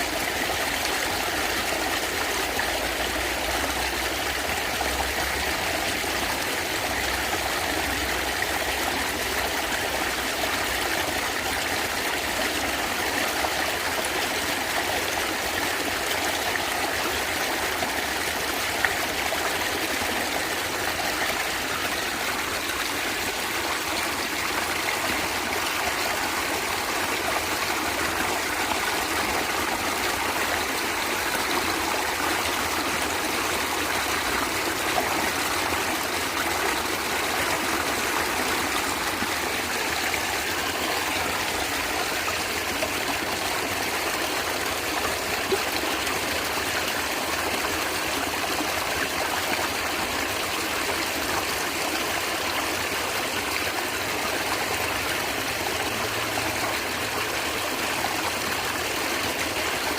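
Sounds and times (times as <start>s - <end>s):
stream flowing and gurgling: 0.0s - 59.9s.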